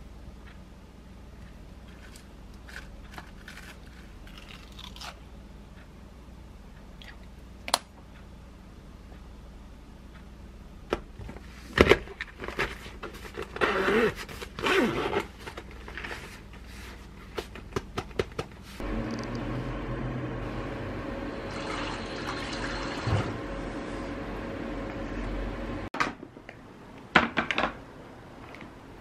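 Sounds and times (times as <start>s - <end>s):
steady low hum: 0.0s - 13.7s, 14.4s - 27.0s.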